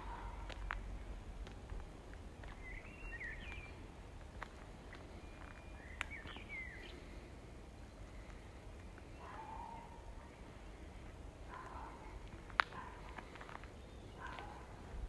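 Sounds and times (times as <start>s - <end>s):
small birds chirping: 2.2s - 14.9s.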